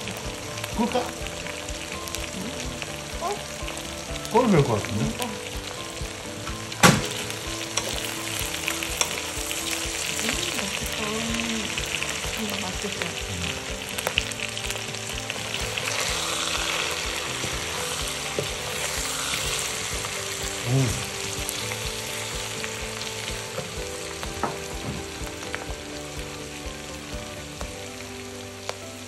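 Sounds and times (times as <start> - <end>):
stir-fry sizzling in a hot pan: 0.0 - 29.0.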